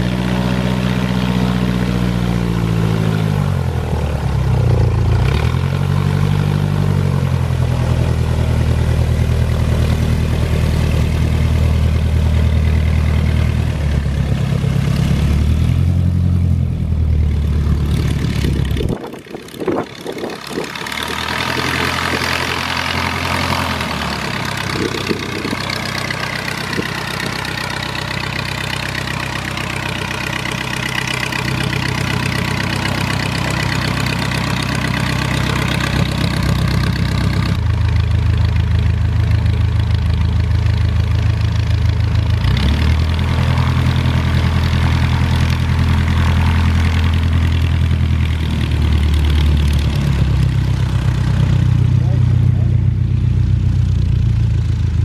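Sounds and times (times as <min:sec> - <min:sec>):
propeller plane engine running: 0:00.0 - 0:55.0.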